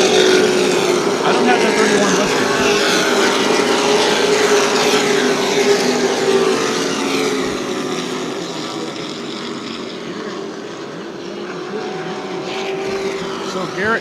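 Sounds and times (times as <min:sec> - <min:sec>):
racing truck engines: 0:00.0 - 0:14.0.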